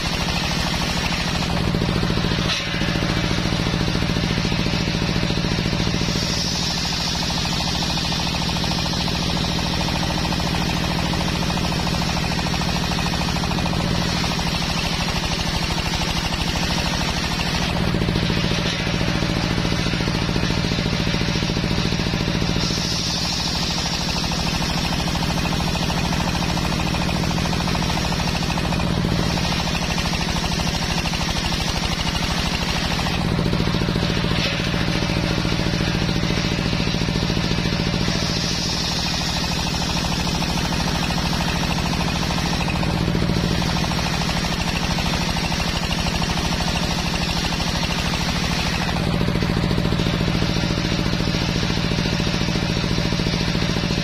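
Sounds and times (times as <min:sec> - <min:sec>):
table saw cutting wood: 0:00.0 - 0:52.7.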